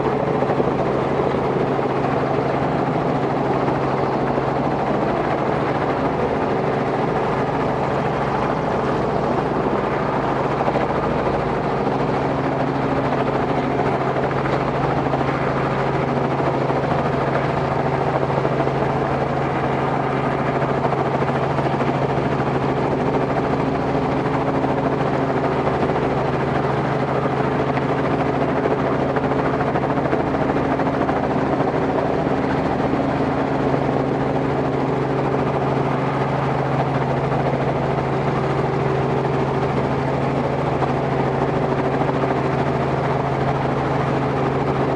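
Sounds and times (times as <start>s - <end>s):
helicopter engine and rotors droning: 0.0s - 44.9s.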